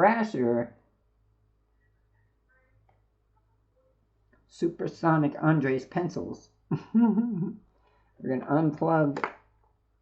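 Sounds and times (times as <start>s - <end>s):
faint low hum: 0.0s - 8.7s.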